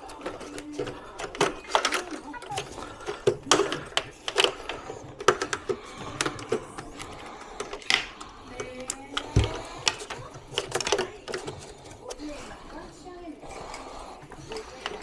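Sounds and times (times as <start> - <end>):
parts being handled clicking: 0.0 - 15.0.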